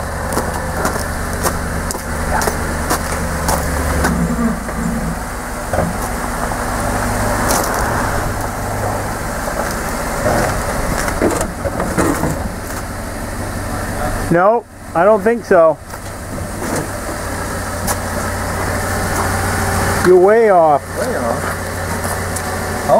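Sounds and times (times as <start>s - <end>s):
truck engine idling: 0.0s - 22.9s.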